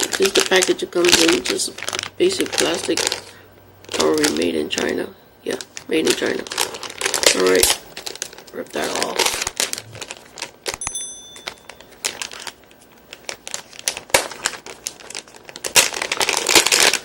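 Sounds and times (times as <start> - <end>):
plastic packaging tearing and crinkling: 0.0 - 3.3, 3.9 - 4.9, 5.5 - 10.8, 11.8 - 17.0.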